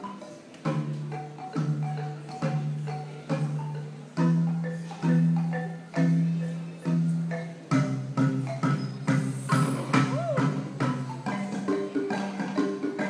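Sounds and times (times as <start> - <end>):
higher marimba melody: 0.0 - 13.0
low marimba bass notes: 0.0 - 13.0.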